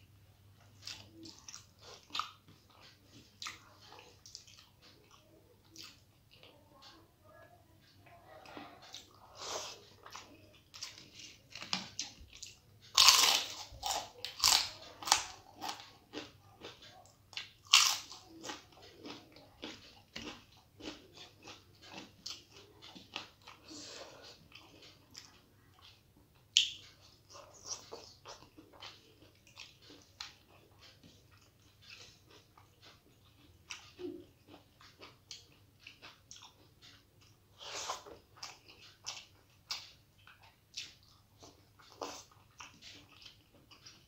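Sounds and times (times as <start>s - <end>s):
crunchy chewing: 0.6s - 6.9s, 7.8s - 44.0s.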